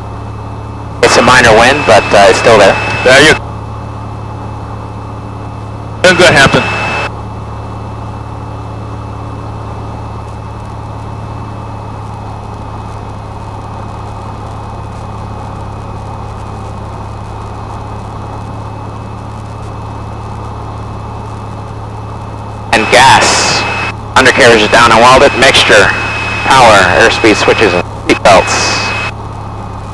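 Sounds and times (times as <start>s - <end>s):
light aircraft engine drone: 0.0s - 29.9s.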